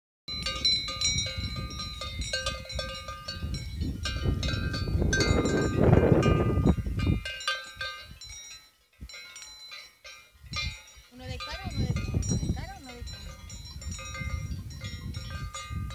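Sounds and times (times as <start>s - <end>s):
livestock bells clanking: 0.3s - 15.9s.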